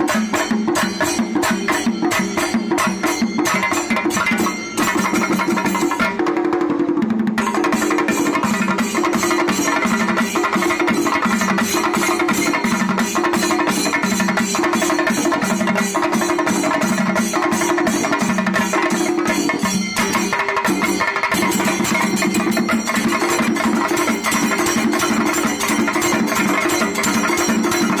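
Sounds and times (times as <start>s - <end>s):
cymbals ringing: 0.0s - 6.1s, 7.4s - 28.0s
chenda drums playing rapid strokes: 0.0s - 28.0s.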